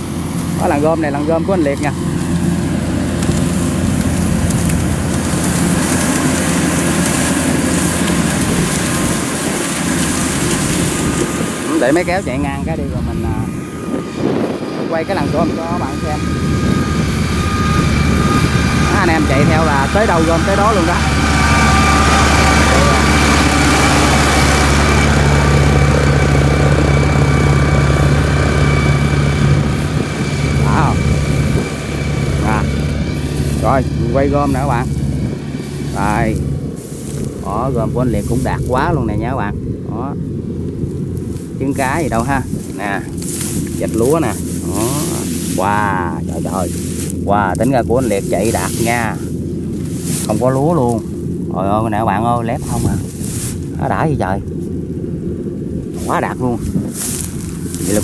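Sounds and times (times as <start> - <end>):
diesel engine hum: 0.0 - 58.0
harvester threshing machinery noise: 0.0 - 58.0.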